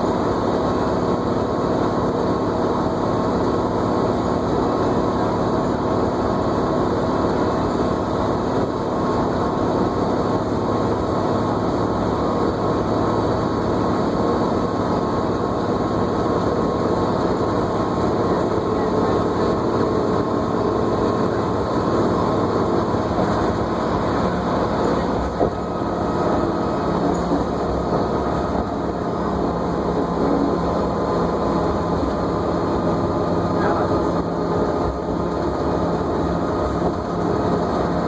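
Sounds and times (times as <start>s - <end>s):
bus engine and road drone: 0.0s - 38.0s.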